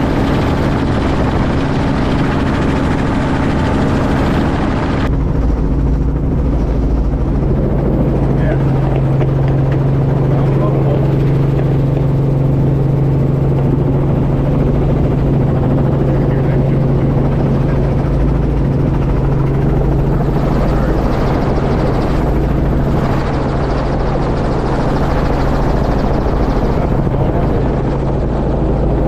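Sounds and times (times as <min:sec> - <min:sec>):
helicopter drone: 0:00.0 - 0:29.0.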